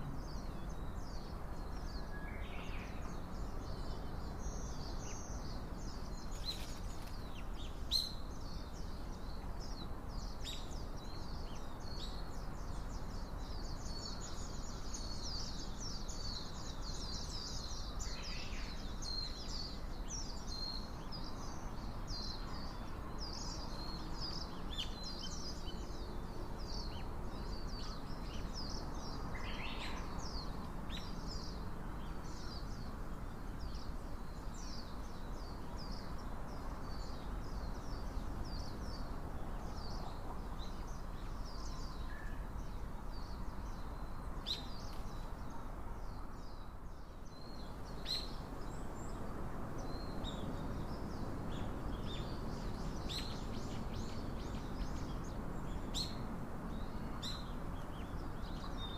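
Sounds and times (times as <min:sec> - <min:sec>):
low background noise: 0:00.0 - 0:58.9
small birds chirping: 0:00.0 - 0:58.9.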